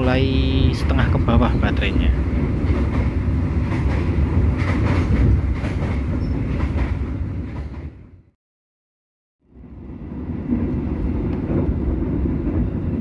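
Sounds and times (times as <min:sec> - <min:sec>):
train rumble and clatter: 0:00.0 - 0:08.3, 0:09.5 - 0:13.0.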